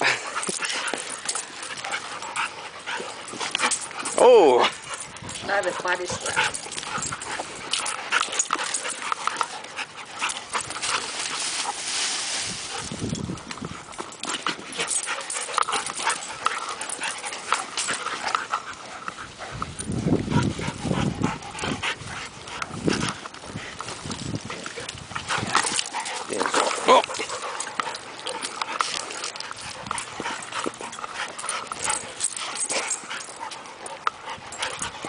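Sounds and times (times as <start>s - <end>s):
dogs panting: 0.0s - 35.0s
dogs scuffling: 0.0s - 35.0s.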